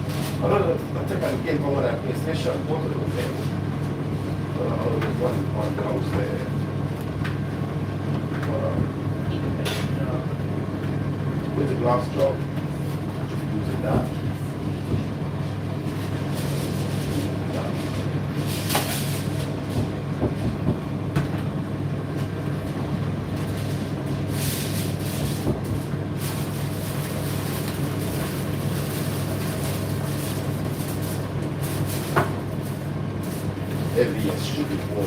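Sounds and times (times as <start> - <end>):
tumble dryer motor and drum hum: 0.0 - 35.0.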